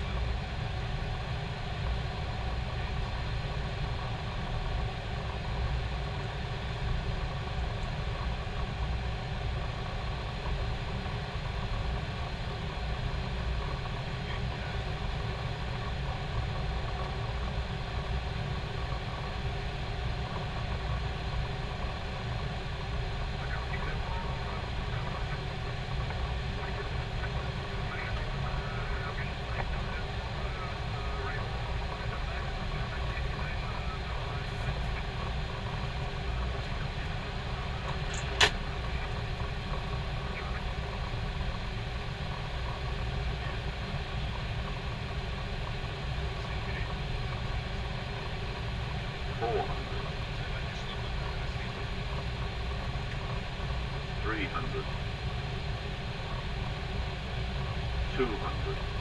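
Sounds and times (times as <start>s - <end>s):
aircraft cockpit hum and rush: 0.0s - 59.0s.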